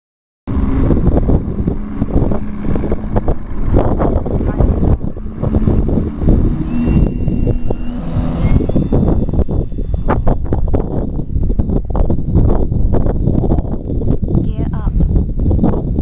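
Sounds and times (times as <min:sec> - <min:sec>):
gusty wind buffeting microphone: 0:00.5 - 0:16.0.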